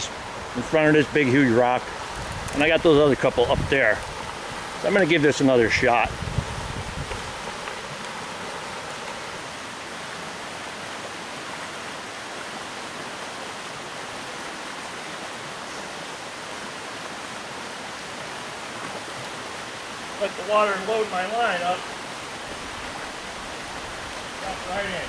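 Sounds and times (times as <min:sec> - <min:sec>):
stream water rushing over rocks: 0:00.0 - 0:25.0.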